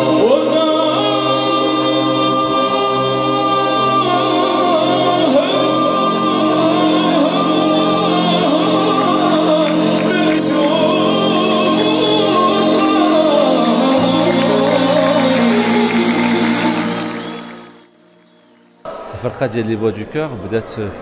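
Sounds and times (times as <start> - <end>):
man singing solo: 0.0 - 17.0
choir holding sustained chords: 0.0 - 19.1.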